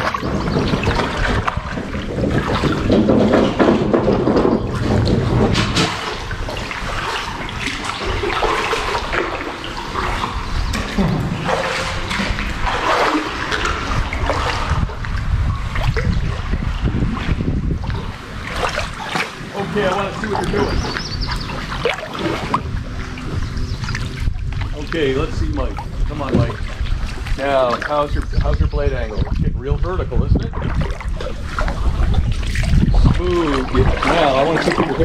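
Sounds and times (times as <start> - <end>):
paddle dipping through water: 0.0 - 35.0
water running along a hull: 0.0 - 35.0
water splashing and dripping: 0.0 - 35.0.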